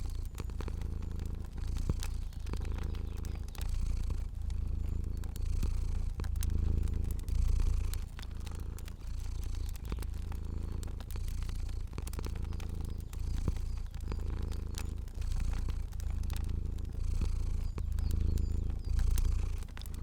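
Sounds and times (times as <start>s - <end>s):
cat purring: 0.0s - 20.0s
wood fire crackling: 0.0s - 20.0s.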